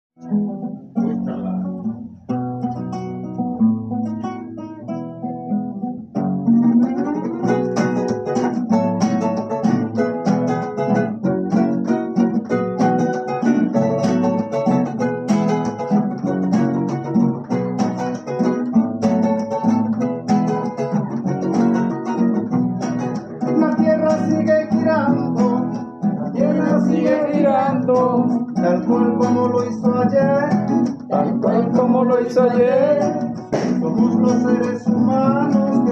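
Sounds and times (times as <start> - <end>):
acoustic guitar strumming: 0.2 - 35.9.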